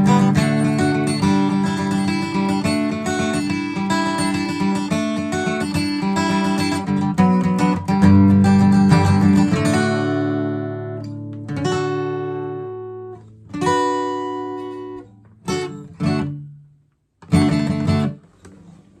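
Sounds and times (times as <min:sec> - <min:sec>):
acoustic guitar strumming chords: 0:00.0 - 0:18.3.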